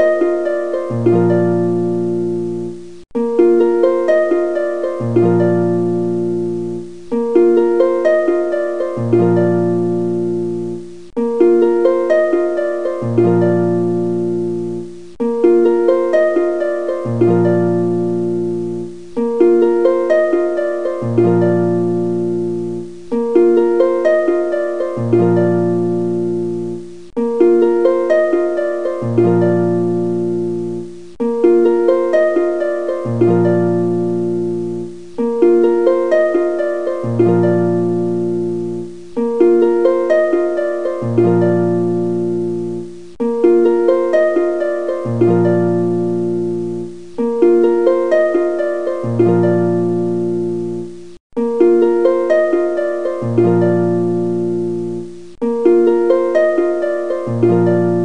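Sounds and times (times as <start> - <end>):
plucked instrumental music: 0.0 - 58.0.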